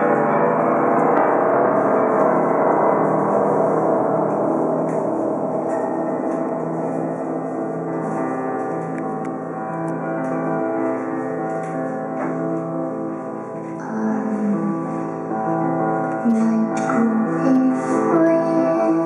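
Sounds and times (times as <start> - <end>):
grand piano chords: 0.0 - 19.0.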